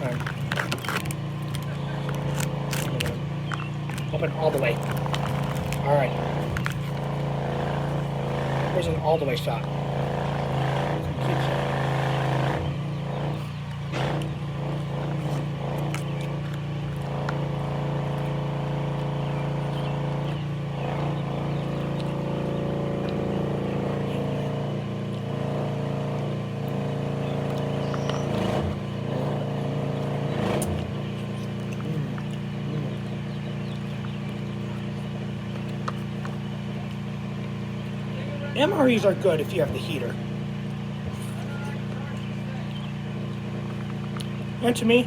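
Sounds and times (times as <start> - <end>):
vehicle engine humming: 0.0 - 45.0.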